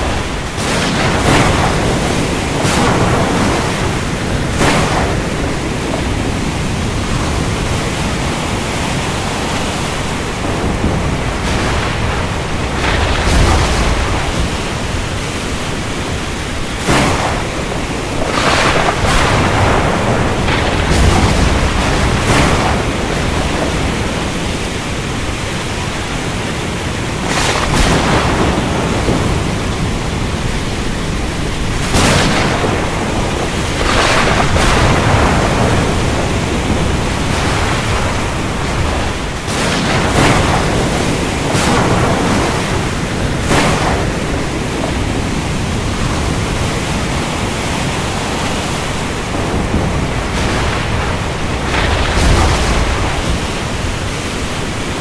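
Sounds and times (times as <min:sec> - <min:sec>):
heavy rain: 0:00.0 - 0:55.0
low rolling thunder rumbles: 0:00.0 - 0:55.0
sharp thunder cracks: 0:00.0 - 0:55.0
waves: 0:00.0 - 0:55.0.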